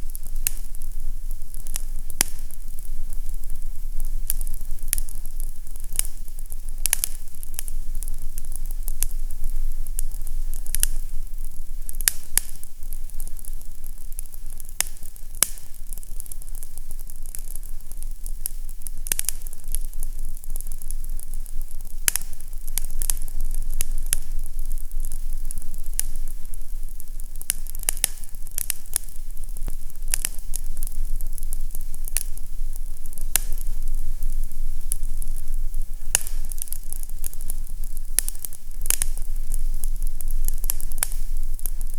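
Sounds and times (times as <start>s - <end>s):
fire crackling and popping: 0.0s - 41.9s
low steady rumble: 0.0s - 41.9s.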